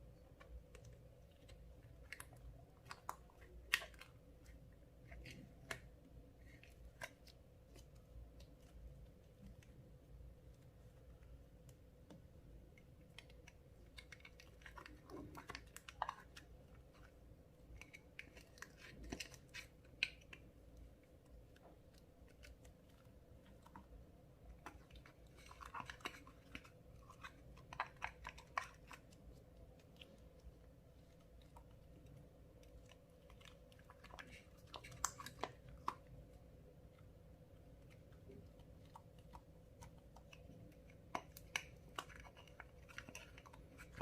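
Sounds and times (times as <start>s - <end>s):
slime clicking and crackling: 0.2s - 8.8s, 11.6s - 44.0s.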